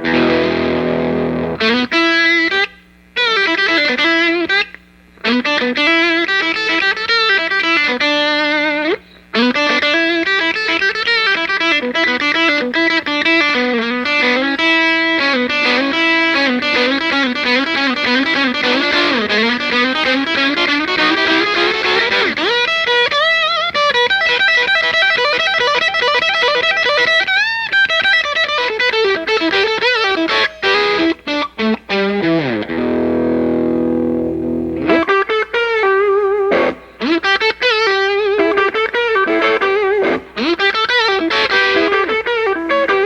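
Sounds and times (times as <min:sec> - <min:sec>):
distorted electric guitar solo: 0:00.0 - 0:43.0.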